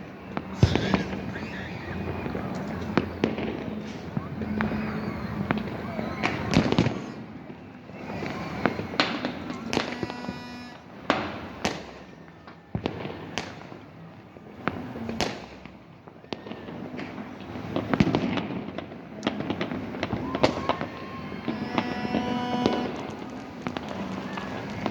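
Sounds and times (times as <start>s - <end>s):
crackle and rumble of fireworks: 0.0s - 24.9s
fireworks bangs: 0.0s - 24.9s.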